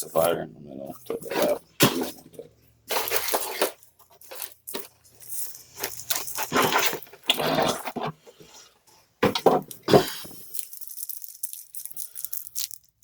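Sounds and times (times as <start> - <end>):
cardboard and plastic rustling: 1.0 - 12.8.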